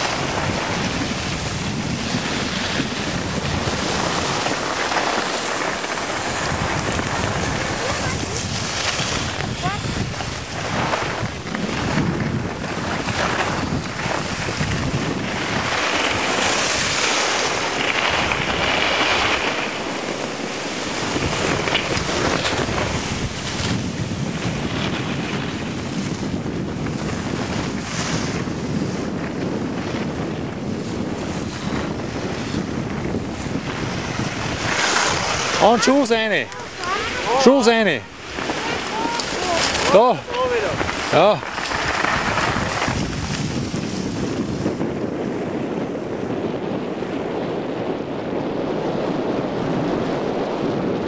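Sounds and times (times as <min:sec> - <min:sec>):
skis scraping over snow: 0:00.0 - 0:51.0
wind rushing over microphone: 0:00.0 - 0:51.0.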